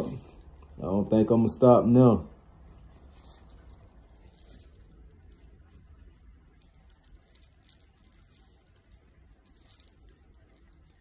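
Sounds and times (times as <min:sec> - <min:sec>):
faint low hum: 0:00.0 - 0:11.0
faint rustles: 0:02.0 - 0:11.0.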